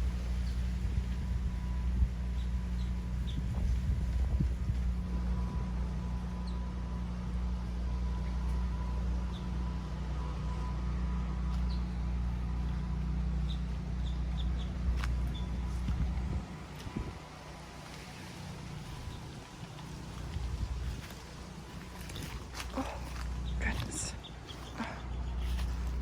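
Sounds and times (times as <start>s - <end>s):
portable generator engine humming: 0.0s - 26.0s.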